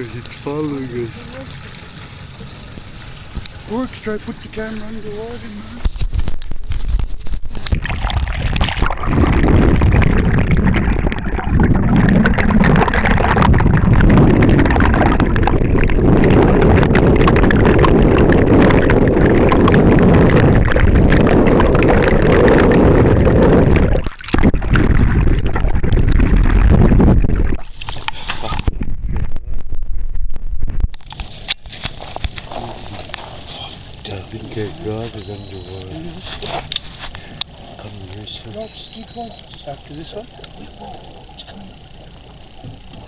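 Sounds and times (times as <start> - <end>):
underwater rushing water: 0.0 - 43.0.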